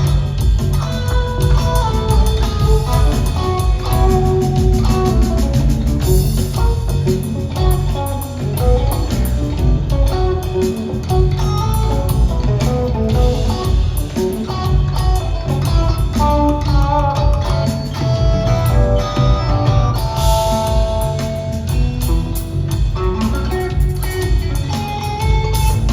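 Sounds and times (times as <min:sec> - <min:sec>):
bass guitar: 0:00.0 - 0:25.9
drum kit: 0:00.0 - 0:25.9
electric guitar lines: 0:00.0 - 0:25.9.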